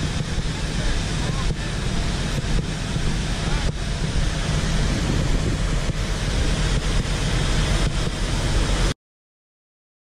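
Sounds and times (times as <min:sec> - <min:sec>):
wind buffeting microphone: 0:00.0 - 0:08.9
large fire burning: 0:00.0 - 0:09.0.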